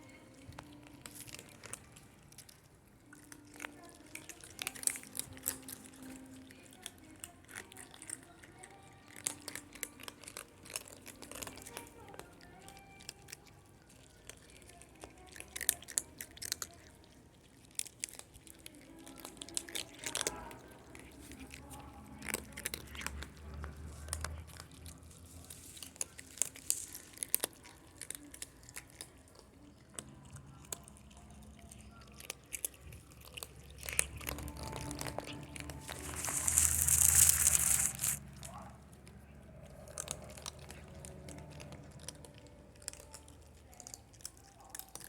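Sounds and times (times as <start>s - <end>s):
cats crunching dry kibble: 0.0s - 45.0s.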